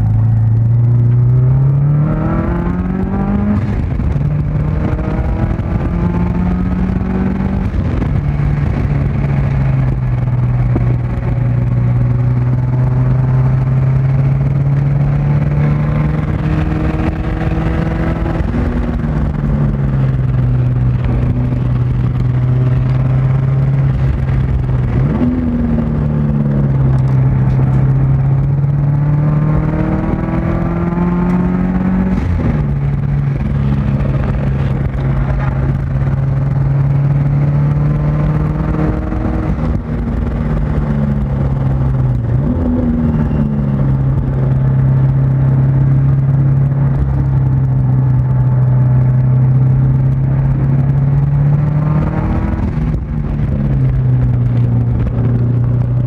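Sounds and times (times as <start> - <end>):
car engine accelerating from inside cabin: 0.0 - 56.0.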